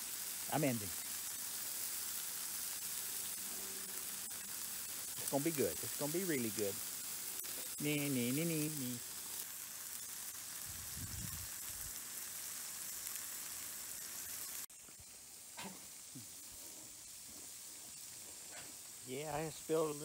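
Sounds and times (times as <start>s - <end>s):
bacon sizzling on griddle: 0.0s - 20.0s.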